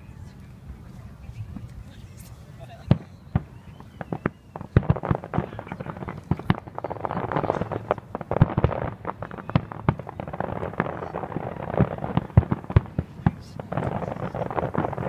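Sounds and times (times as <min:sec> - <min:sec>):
fireworks bangs: 0:02.7 - 0:15.0.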